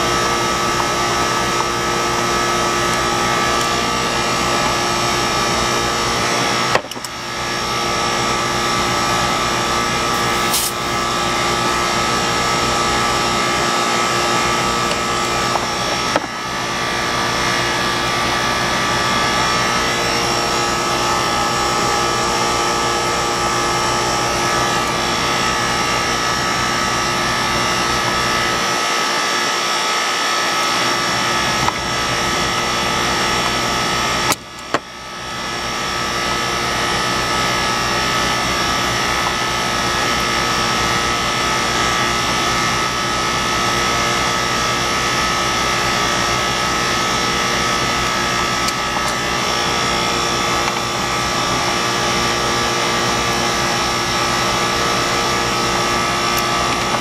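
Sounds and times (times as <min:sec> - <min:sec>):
air conditioner unit running: 0:00.0 - 0:57.0.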